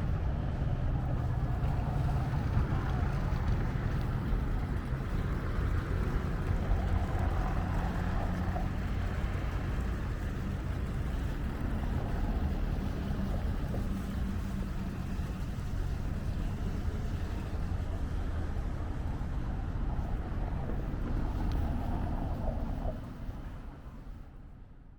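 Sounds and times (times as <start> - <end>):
low engine rumble: 0.0 - 24.5.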